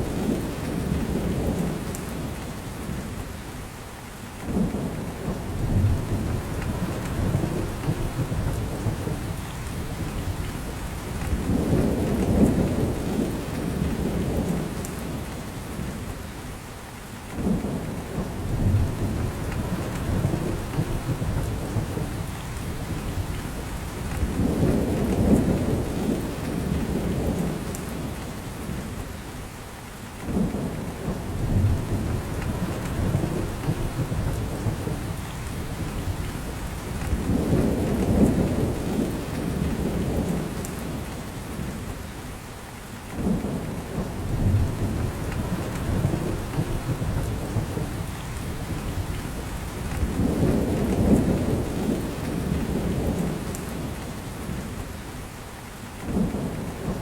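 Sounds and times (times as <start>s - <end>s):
rain falling on forest: 0.0s - 57.0s.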